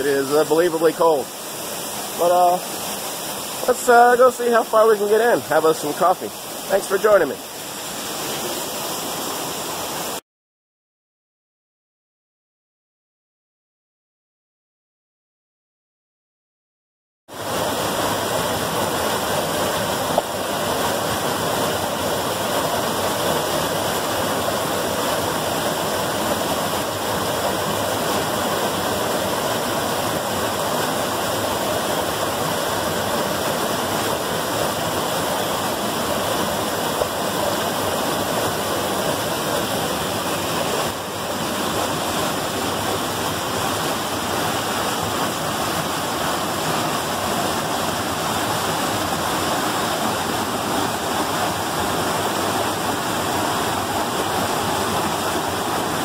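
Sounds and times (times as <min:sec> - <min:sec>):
waterfall rushing over boulders: 0:00.0 - 0:10.2, 0:17.3 - 0:56.0.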